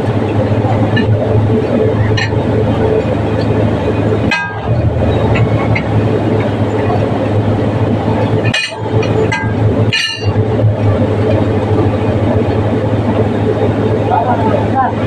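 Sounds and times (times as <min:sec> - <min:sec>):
diesel engine idling hum: 0:00.0 - 0:15.0.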